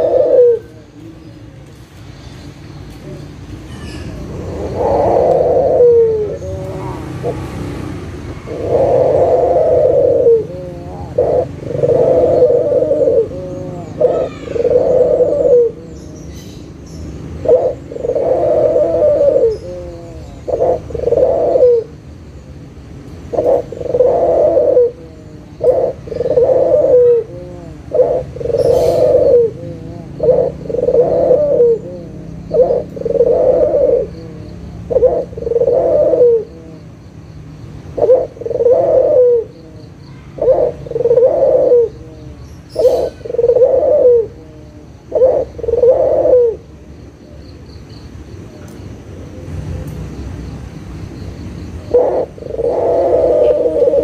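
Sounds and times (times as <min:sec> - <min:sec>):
dove cooing: 0:00.0 - 0:01.8, 0:02.9 - 0:22.0, 0:23.3 - 0:37.1, 0:37.8 - 0:47.4, 0:51.8 - 0:54.0.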